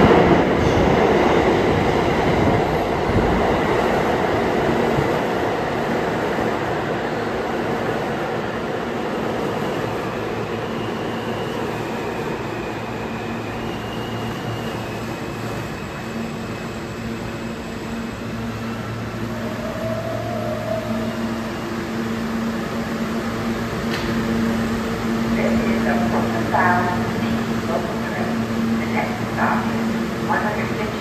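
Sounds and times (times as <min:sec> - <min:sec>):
subway train wheels rumbling on rail: 0:00.0 - 0:31.0.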